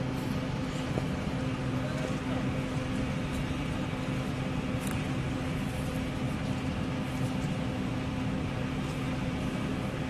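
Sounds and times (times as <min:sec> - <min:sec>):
low steady hum: 0:00.0 - 0:10.0
passenger train rumbling: 0:00.0 - 0:10.0.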